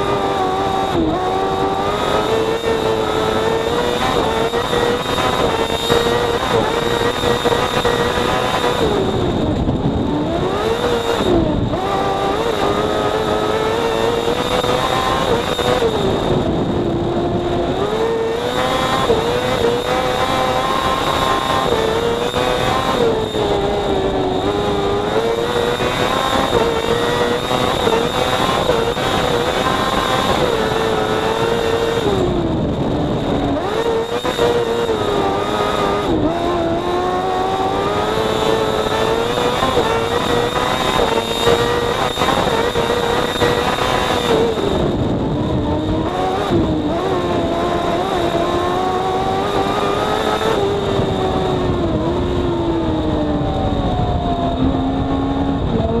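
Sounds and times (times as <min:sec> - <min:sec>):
buggy engine at high revs: 0:00.0 - 0:56.0.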